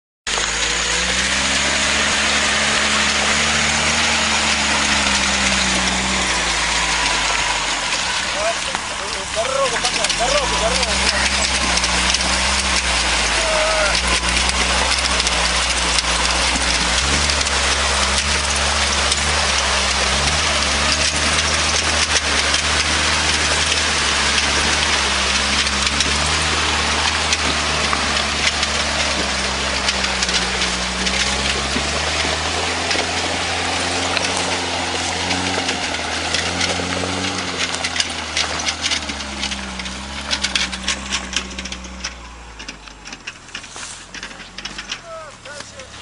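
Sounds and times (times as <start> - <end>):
car engine revving under load: 0.2 - 46.0
spraying mud and water: 0.3 - 46.0.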